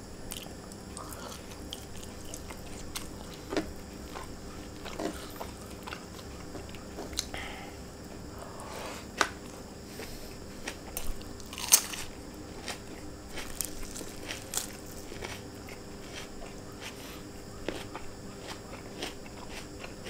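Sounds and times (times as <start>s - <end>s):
person chewing food: 0.3s - 7.6s, 9.2s - 20.0s.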